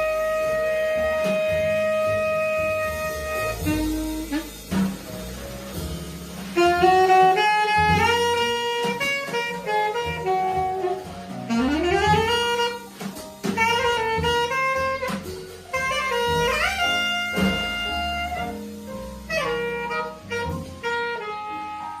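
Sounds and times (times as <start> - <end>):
alto saxophone jazz ballad: 0.0 - 22.0
double bass: 0.0 - 22.0
drums: 0.0 - 22.0
piano: 0.0 - 22.0.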